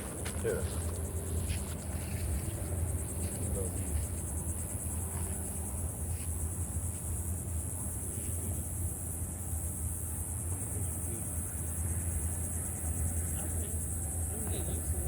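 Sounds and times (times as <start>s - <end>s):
continuous low hum: 0.0s - 15.0s.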